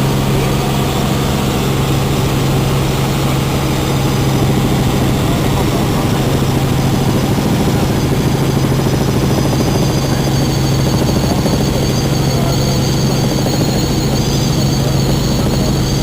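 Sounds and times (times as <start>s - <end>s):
faint high whine: 0.0s - 16.0s
helicopter rotor and engine: 0.0s - 16.0s.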